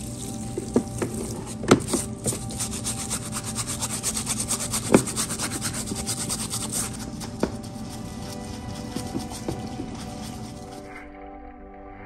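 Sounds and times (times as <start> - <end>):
brush scrubbing metal: 0.0 - 10.9
pump humming: 0.0 - 10.9.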